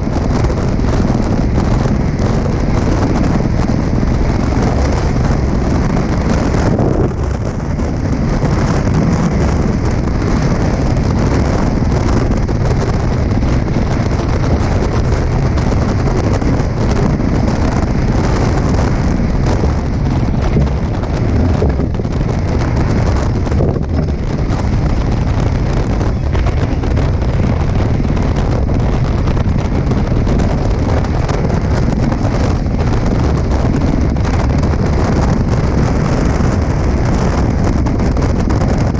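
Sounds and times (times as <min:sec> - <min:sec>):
water rushing along hulls: 0:00.0 - 0:38.9
wind buffeting microphone: 0:00.0 - 0:38.9.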